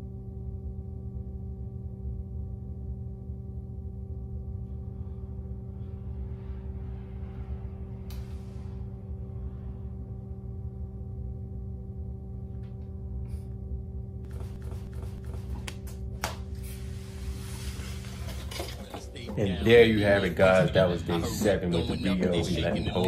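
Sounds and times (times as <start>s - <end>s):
low hum with overtones: 0.0s - 23.0s.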